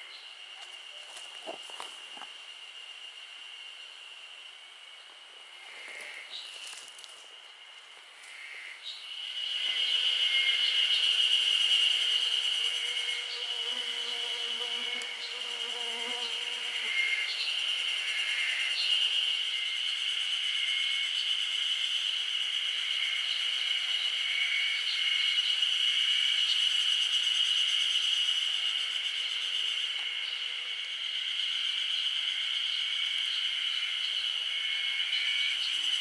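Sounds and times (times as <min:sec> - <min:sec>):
insect chirps: 0:00.0 - 0:36.0
insects buzzing drone: 0:00.0 - 0:36.0.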